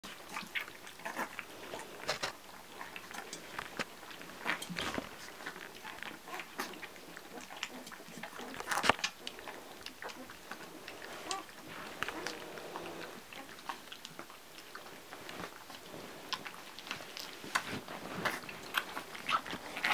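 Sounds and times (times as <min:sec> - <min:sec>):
puppies lapping milk: 0:00.0 - 0:19.9.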